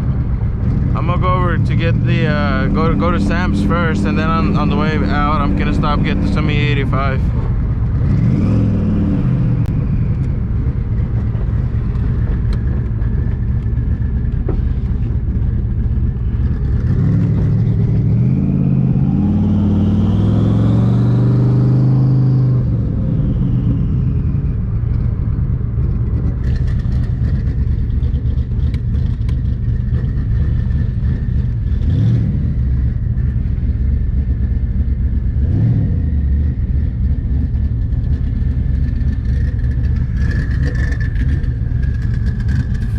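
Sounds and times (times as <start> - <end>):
car engine rumbling: 0.0 - 42.9.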